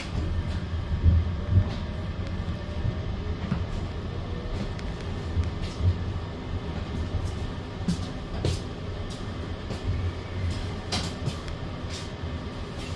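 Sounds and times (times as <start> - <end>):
train carriage rumble: 0.0 - 12.9.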